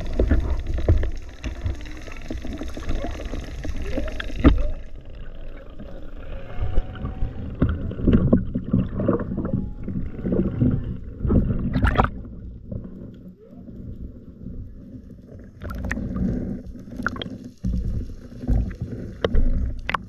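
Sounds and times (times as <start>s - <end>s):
rush of water: 0.0s - 12.3s, 15.6s - 20.0s
muffled underwater bubbling: 0.0s - 20.0s.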